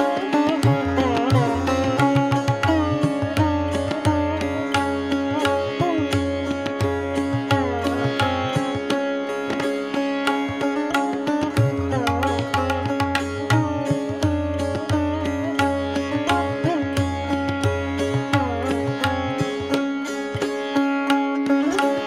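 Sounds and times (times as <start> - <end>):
plucked string melody: 0.0 - 22.0.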